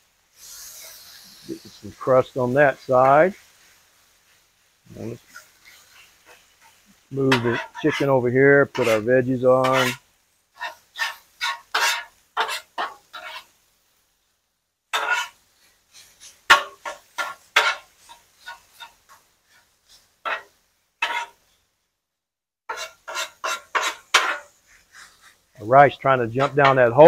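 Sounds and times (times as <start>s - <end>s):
metal spatula scraping griddle: 0.4s - 3.8s, 4.9s - 13.6s, 14.9s - 21.6s, 22.7s - 27.0s.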